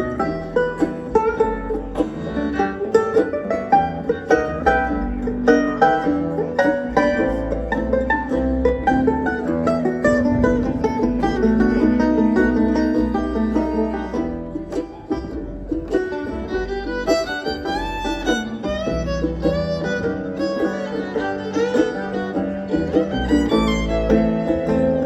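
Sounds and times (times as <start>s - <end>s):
banjo: 0.0s - 25.0s
fiddle lead with sliding lines: 0.0s - 25.0s
guitar: 0.0s - 25.0s
upright bass: 0.0s - 25.0s.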